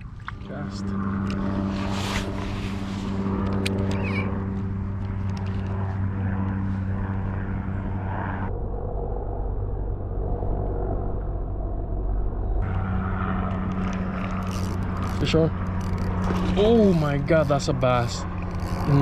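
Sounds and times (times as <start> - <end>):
steady engine drone: 0.0 - 19.0.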